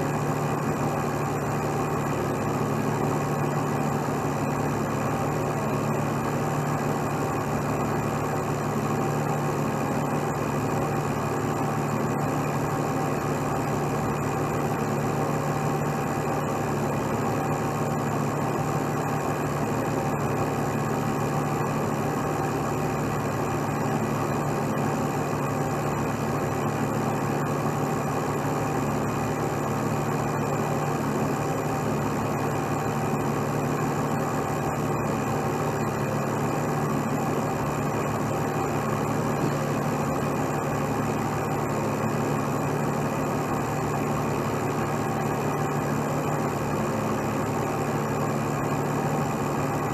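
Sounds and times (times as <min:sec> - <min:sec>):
truck diesel engine idling: 0:00.0 - 0:49.9.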